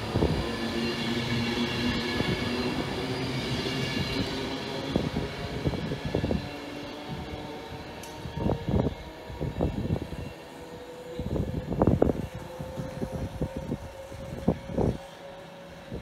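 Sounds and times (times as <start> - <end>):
electric train rushing past: 0.0 - 16.0.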